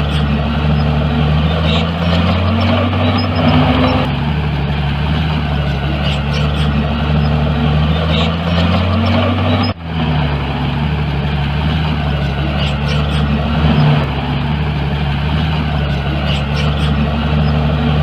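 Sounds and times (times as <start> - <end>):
diesel earthmoving machinery running: 0.0 - 18.0.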